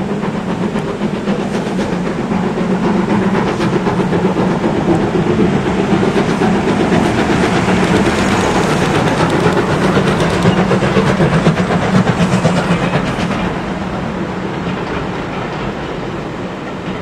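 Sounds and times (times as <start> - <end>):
train coaches rolling on track: 0.0 - 17.0
wheels clicking over rail joints: 0.7 - 17.0.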